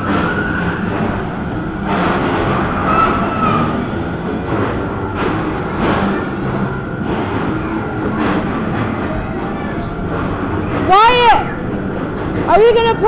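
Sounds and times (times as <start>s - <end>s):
bumper cars knocking together: 0.0s - 13.0s
bumper cars rumbling on floor: 0.0s - 13.0s.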